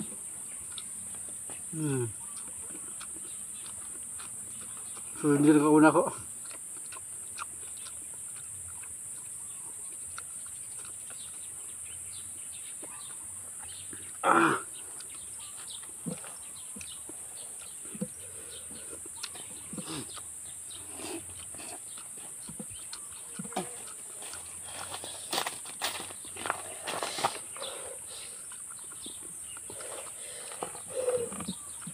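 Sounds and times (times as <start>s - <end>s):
man chewing and slurping: 0.0s - 5.2s, 6.2s - 25.6s, 26.2s - 31.9s.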